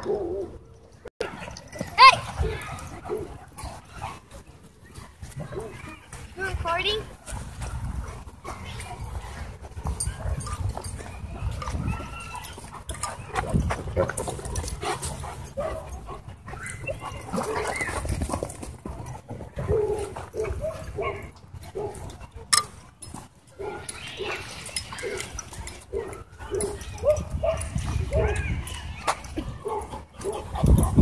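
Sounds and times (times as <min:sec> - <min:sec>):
dogs whining and yipping: 0:00.0 - 0:06.0, 0:07.7 - 0:31.0.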